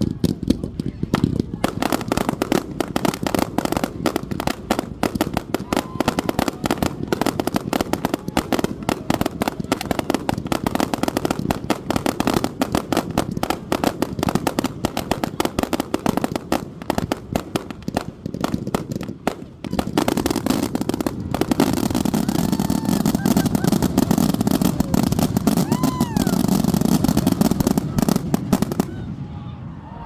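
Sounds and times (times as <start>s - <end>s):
fireworks rapid pops and cracks: 0.0s - 29.1s.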